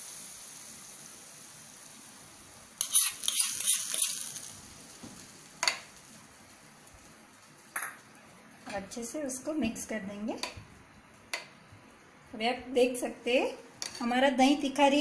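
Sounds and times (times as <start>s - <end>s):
hot oil sizzling: 0.0s - 15.0s
loud crackling sizzle: 0.0s - 15.0s.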